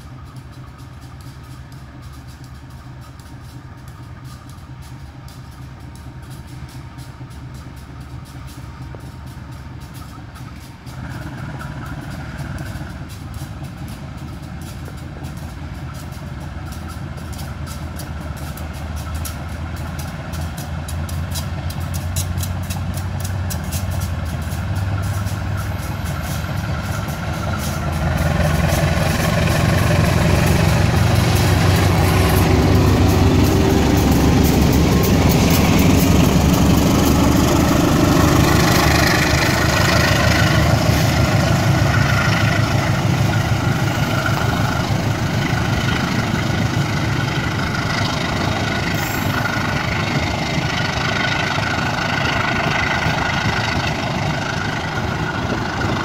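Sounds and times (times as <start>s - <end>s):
diesel locomotive engine under load: 0.0s - 56.0s.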